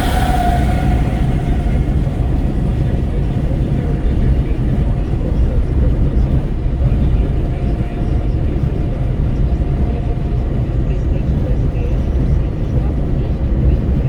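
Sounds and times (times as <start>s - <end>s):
road and tyre rumble: 0.0s - 14.0s
wind buffeting through car window: 0.0s - 14.0s.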